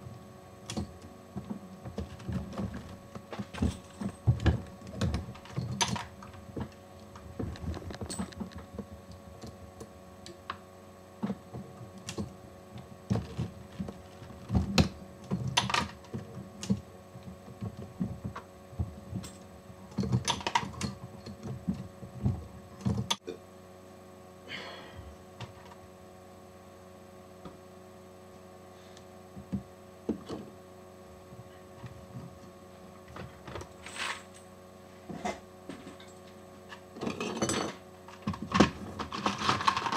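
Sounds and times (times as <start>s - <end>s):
steady electrical hum: 0.0s - 39.9s.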